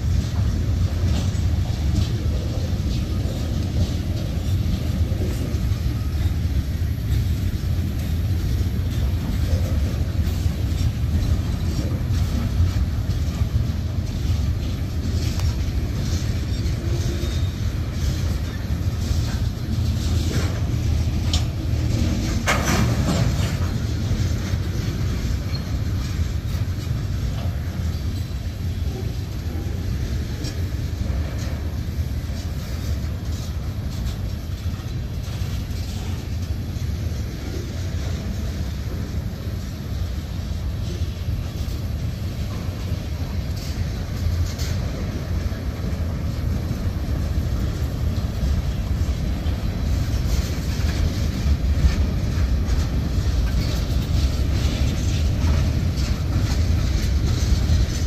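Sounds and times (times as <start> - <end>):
freight train wheels rumbling: 0.0 - 58.0
wheels clicking over rail joints: 0.0 - 58.0.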